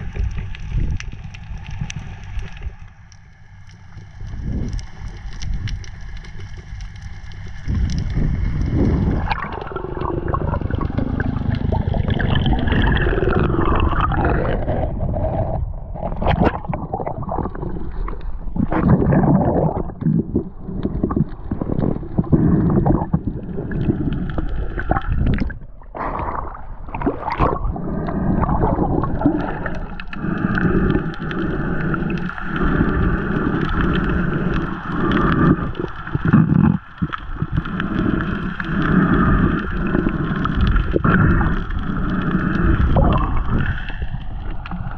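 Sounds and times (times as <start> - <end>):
water gurgling and sloshing: 0.0 - 44.9.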